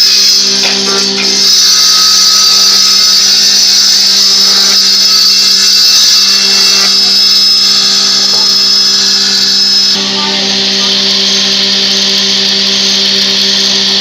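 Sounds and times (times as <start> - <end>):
electric power tool whining: 0.0 - 14.0.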